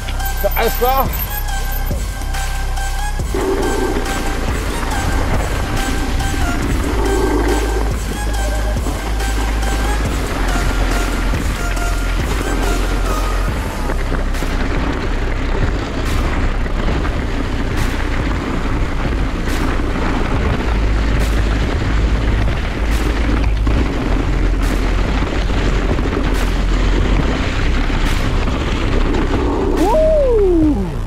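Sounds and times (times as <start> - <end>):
bike tyre rumble: 0.0 - 31.0
wind buffeting microphone: 3.2 - 31.0.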